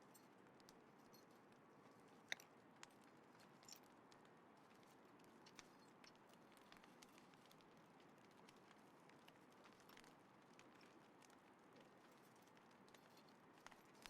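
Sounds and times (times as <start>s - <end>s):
wood fire crackling and popping: 2.3s - 14.0s.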